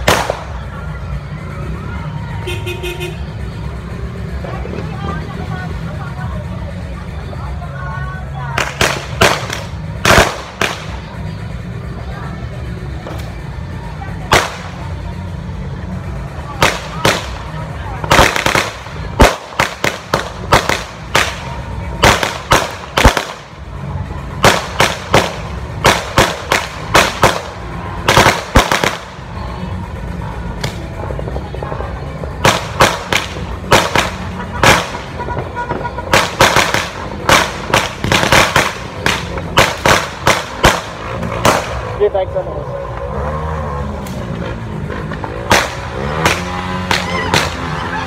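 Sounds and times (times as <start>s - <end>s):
firecrackers banging: 0.0s - 48.0s.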